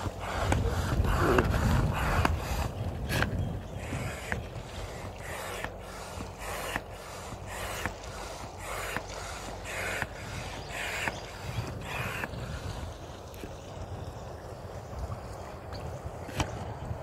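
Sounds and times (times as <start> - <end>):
hand air pump strokes: 0.0 - 14.0.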